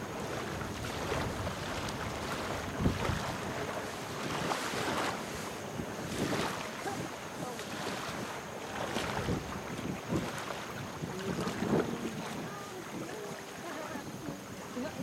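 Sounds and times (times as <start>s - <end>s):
legs wading through water: 0.0s - 15.0s
wind buffeting microphone: 0.0s - 15.0s.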